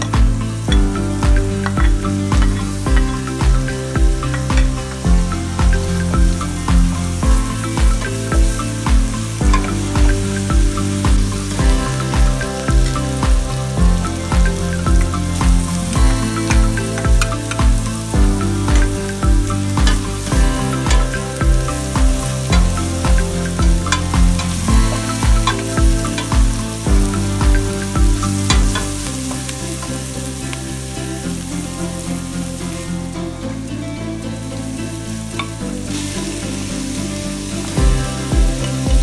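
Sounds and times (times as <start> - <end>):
background music with steady beat: 0.0 - 39.0
onion sizzling in oil: 0.0 - 39.0.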